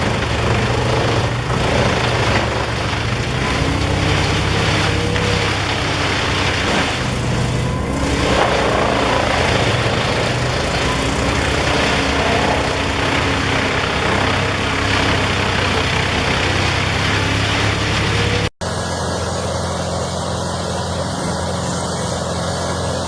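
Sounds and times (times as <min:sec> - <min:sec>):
wood-processing machine running: 0:00.0 - 0:23.0.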